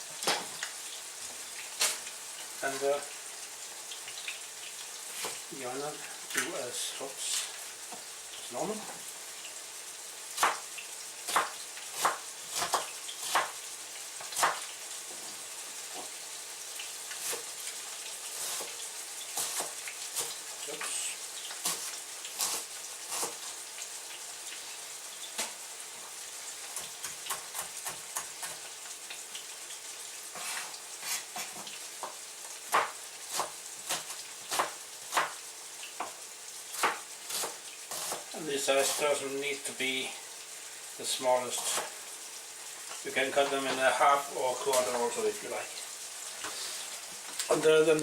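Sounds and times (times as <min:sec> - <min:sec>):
meat sizzling in a pan: 0:00.0 - 0:48.0.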